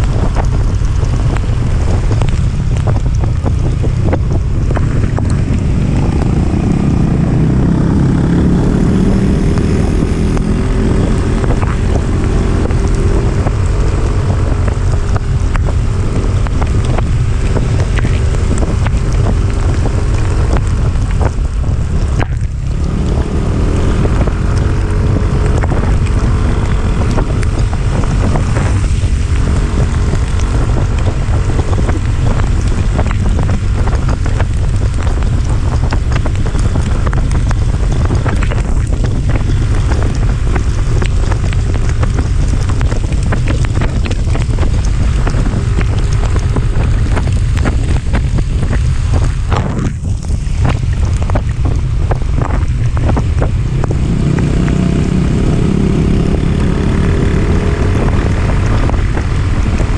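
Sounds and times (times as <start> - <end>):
motorcycle engine hum: 0.0 - 59.9
wind buffeting microphone: 0.0 - 59.9.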